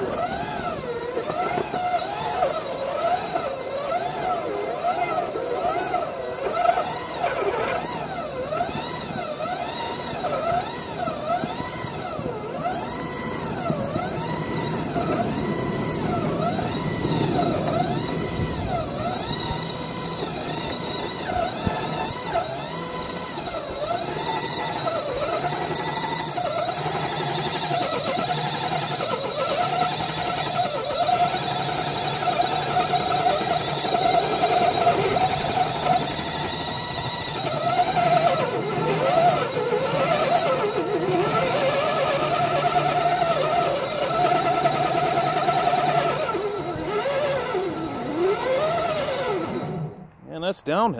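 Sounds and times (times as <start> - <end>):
model train mechanical whir: 0.0 - 50.2
steady running hum: 0.0 - 50.9.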